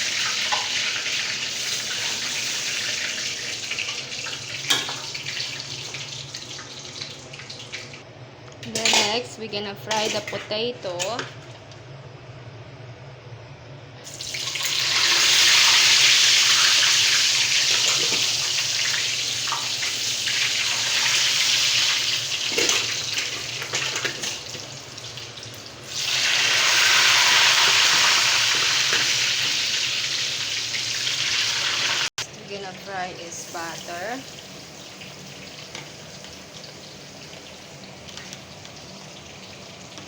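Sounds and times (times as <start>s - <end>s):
potatoes sizzling in oil: 0.0s - 6.9s, 14.1s - 40.0s.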